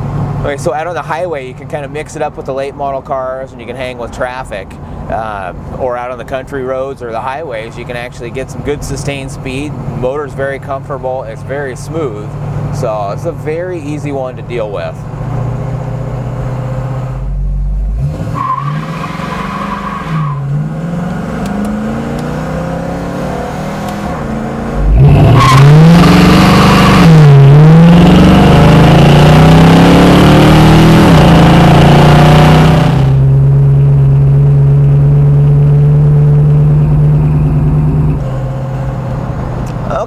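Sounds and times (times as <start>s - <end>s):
car engine accelerating: 7.9s - 40.0s.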